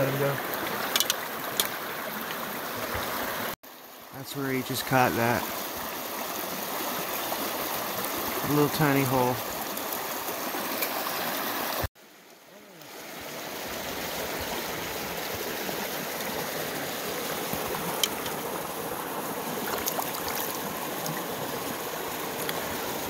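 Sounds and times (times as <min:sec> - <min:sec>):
creek running over rocks: 0:00.0 - 0:23.0.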